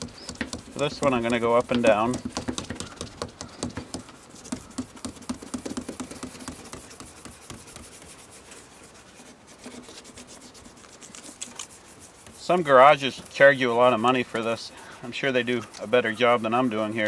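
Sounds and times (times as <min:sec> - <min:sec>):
sanding pad scrubbing plastic: 0:00.0 - 0:17.0.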